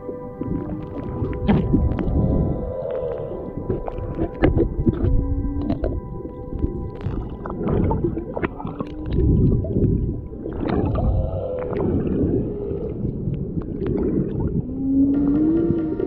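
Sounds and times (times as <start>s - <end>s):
low underwater noise: 0.0s - 16.0s
whale moans underwater: 0.0s - 16.0s.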